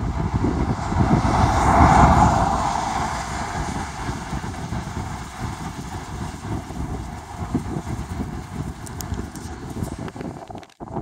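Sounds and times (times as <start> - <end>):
vehicle passing by: 0.0 - 9.8
wind on microphone: 0.0 - 11.0.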